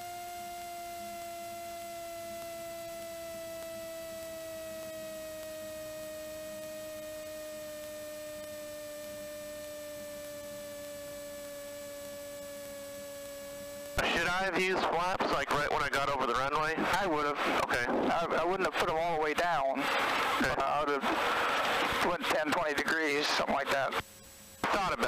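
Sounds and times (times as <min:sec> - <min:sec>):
electrical whine on intercom: 0:00.0 - 0:25.0.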